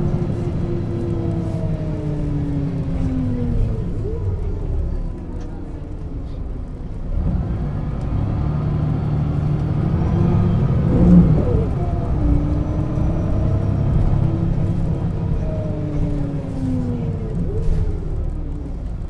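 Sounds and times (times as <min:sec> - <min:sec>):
bus diesel engine pulling: 0:00.0 - 0:19.0.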